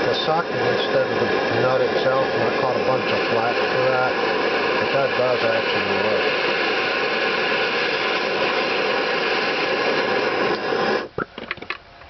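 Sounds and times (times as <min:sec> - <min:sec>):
torch flame hissing: 0:00.0 - 0:11.3.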